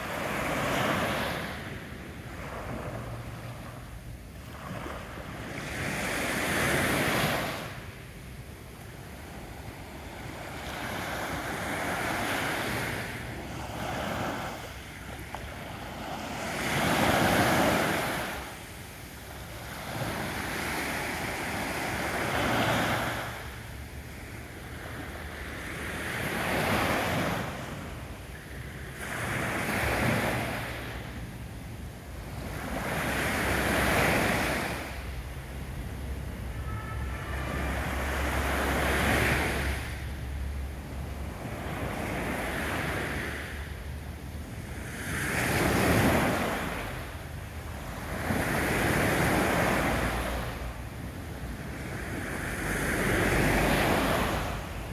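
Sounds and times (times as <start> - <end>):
small waves washing up beach: 0.0 - 54.9.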